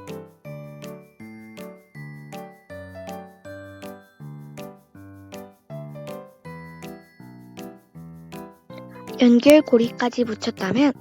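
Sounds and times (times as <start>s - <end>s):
bouncy keyboard tune: 0.0s - 11.0s.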